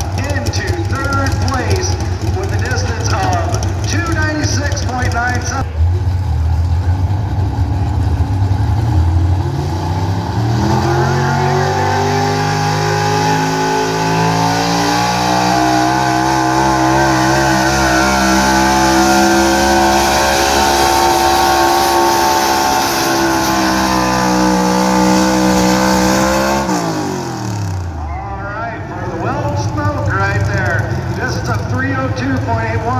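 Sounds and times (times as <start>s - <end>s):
pickup truck engine revving: 0.0s - 32.9s.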